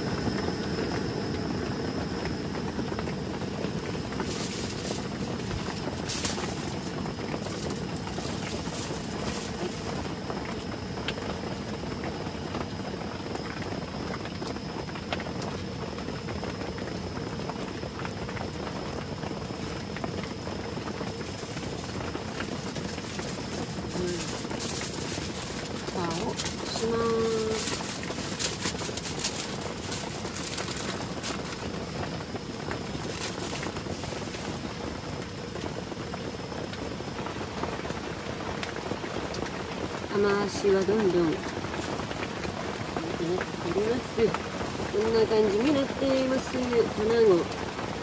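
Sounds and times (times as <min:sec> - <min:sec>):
heavy rain pouring: 0:00.0 - 0:48.0.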